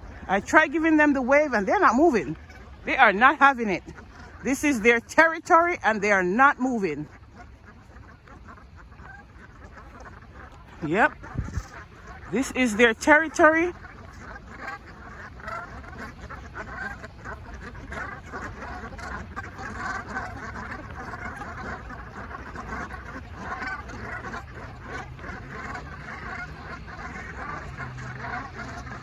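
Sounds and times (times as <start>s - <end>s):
flock of geese honking: 0.0s - 29.0s
low steady hum: 0.0s - 29.0s.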